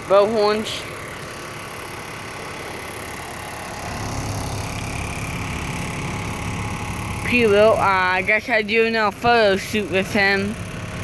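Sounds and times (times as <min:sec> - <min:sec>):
roadside traffic noise: 0:00.0 - 0:11.0
passing vehicle engine: 0:01.9 - 0:11.0.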